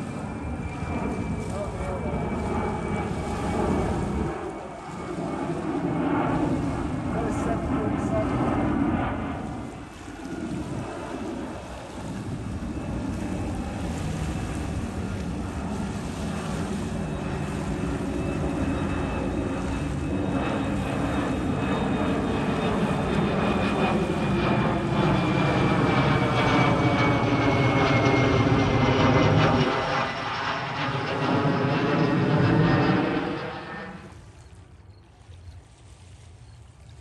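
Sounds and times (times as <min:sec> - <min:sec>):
high jet fan whine: 0:00.0 - 0:37.0
jet airliner passing overhead: 0:00.0 - 0:37.0.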